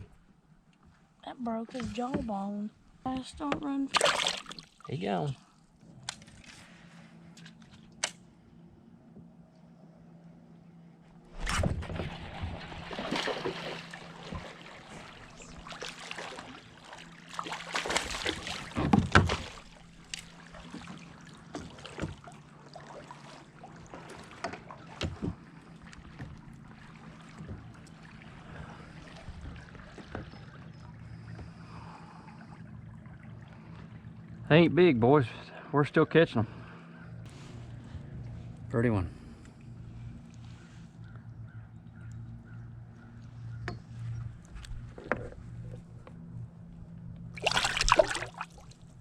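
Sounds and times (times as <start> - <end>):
water sloshing against kayak: 0.0 - 8.0, 11.1 - 34.5, 36.6 - 49.0.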